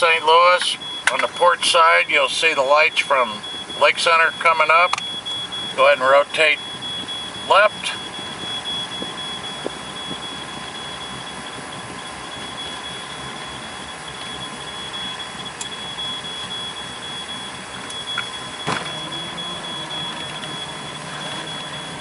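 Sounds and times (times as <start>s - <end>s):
high-pitched whine: 0.0s - 22.0s
motorboat rushing noise: 3.0s - 22.0s.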